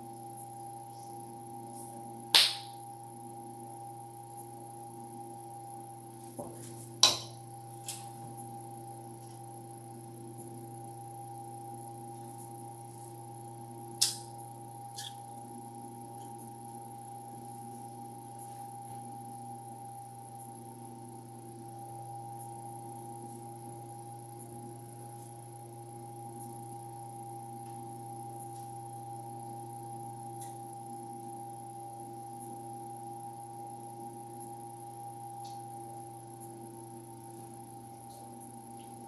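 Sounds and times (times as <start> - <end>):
electrical hum: 0.0 - 39.0.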